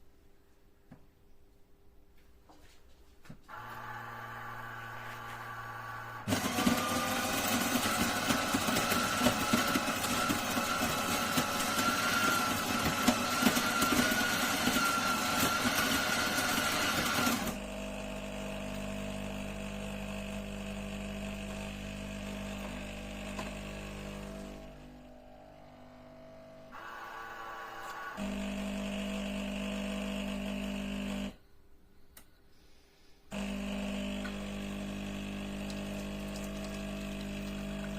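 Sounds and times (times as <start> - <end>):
coffee machine pump hum: 3.5 - 31.3, 33.3 - 37.9
coffee grinder whining: 3.5 - 31.4, 33.3 - 37.9.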